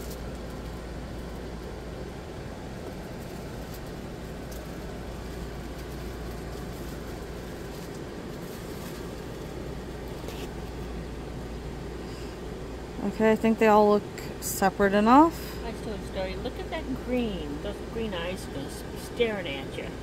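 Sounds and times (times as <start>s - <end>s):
low room hum and hiss: 0.0s - 20.0s.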